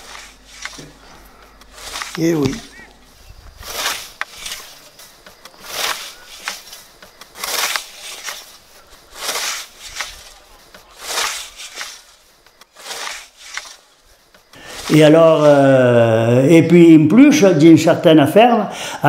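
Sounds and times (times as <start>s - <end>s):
scythe swishing through grass: 0.0s - 16.0s.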